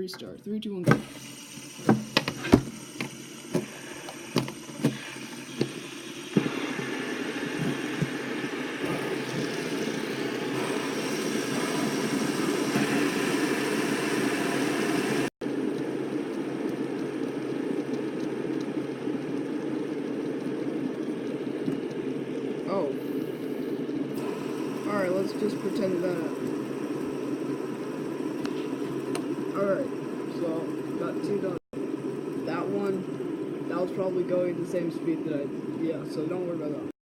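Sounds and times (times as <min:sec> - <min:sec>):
fidget spinners whirring: 0:00.0 - 0:36.9.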